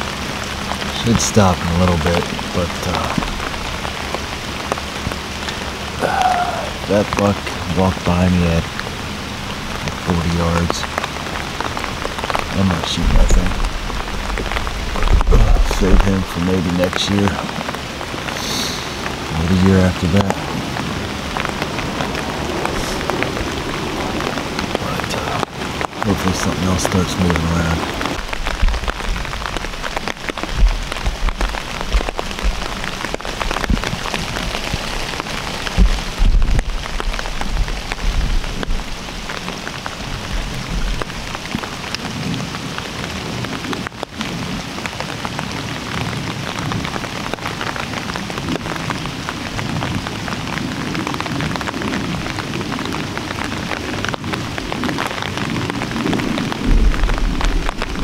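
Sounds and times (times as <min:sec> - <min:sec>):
low rumbles: 0:00.0 - 0:58.0
rain pattering on umbrella: 0:00.0 - 0:58.0.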